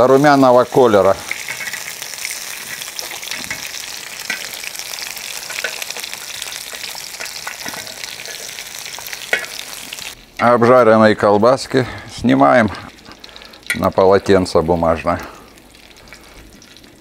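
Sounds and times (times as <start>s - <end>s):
sausages sizzling in a skillet: 0.0s - 17.0s.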